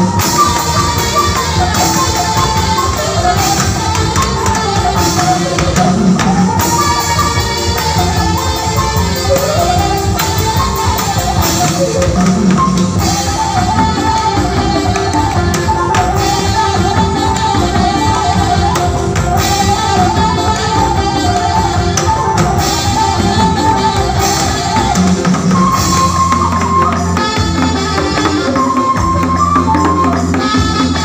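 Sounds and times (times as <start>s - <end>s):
steady drum beat: 0.0s - 31.0s
wavering melodic lead line: 0.0s - 31.0s.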